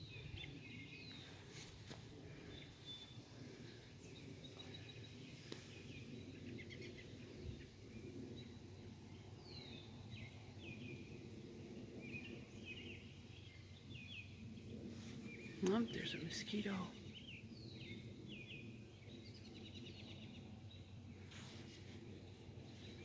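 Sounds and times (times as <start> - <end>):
songbirds chirping and whistling: 0.0 - 23.0.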